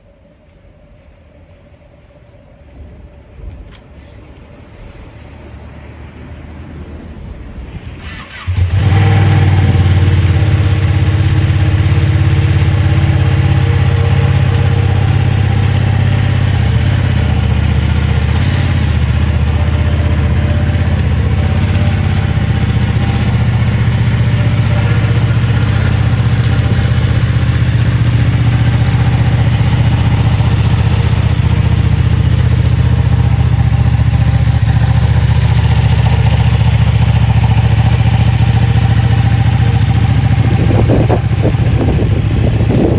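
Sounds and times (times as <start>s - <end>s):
motorcycle engine starting and idling: 7.9s - 42.9s.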